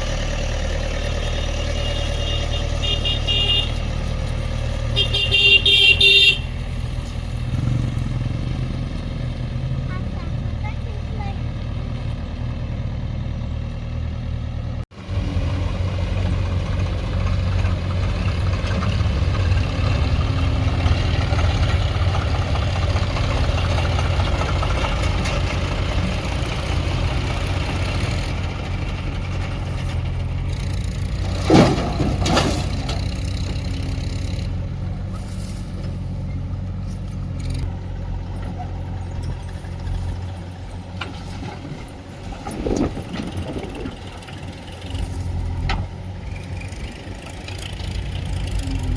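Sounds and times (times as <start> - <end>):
diesel engines droning: 0.0 - 48.9.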